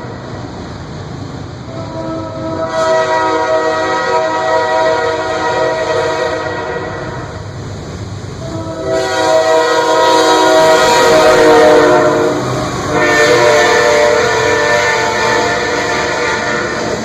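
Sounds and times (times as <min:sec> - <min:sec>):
locomotive air horn: 0:01.7 - 0:07.4, 0:08.4 - 0:17.0.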